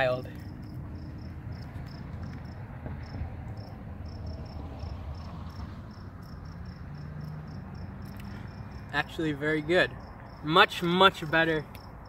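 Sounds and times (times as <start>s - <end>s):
insect chirping: 0.3s - 10.6s.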